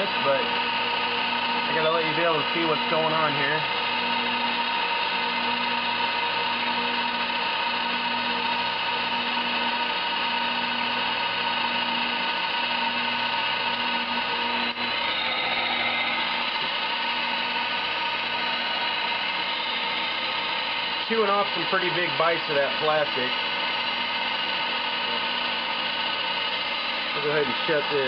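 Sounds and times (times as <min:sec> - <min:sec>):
lathe motor whine: 0:00.0 - 0:28.0.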